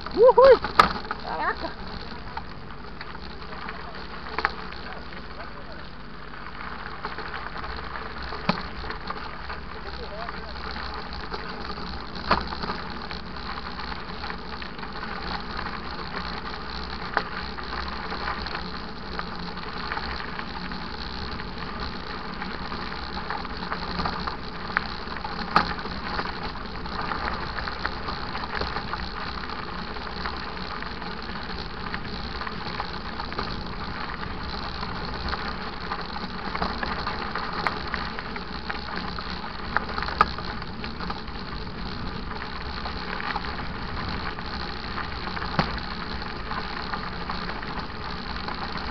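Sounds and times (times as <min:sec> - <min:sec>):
bike rattling: 0:00.0 - 0:48.9
bike tyres rumbling on dirt: 0:00.0 - 0:48.9.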